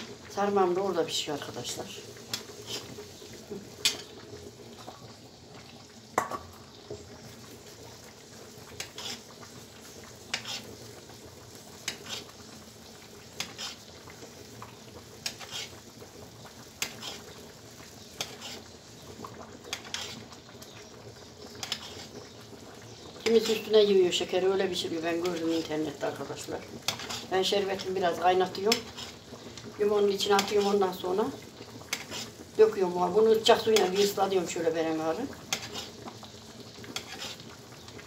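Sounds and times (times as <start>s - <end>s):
syrup sizzling: 0.0s - 38.0s.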